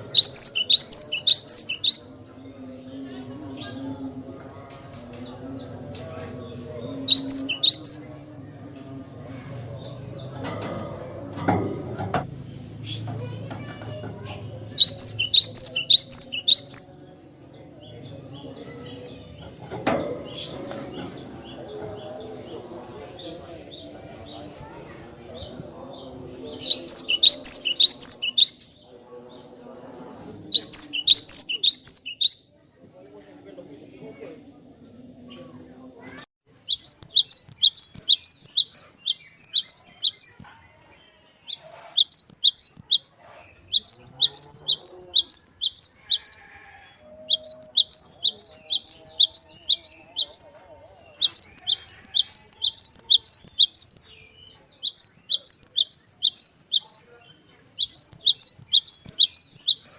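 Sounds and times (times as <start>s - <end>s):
bird chirping: 0.0s - 8.8s, 12.4s - 32.6s, 36.5s - 59.9s.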